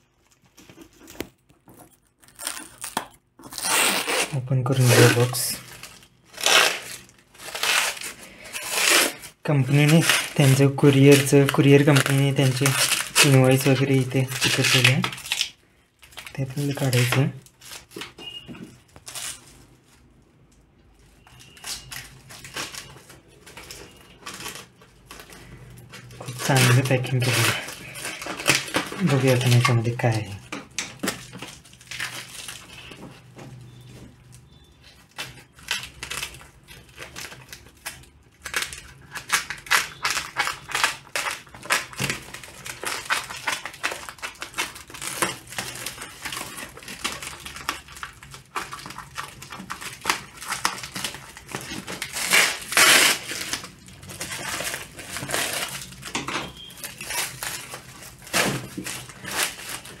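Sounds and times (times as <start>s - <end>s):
plastic wrap crinkling: 0.0s - 60.0s
plastic wrap ripping: 0.0s - 60.0s.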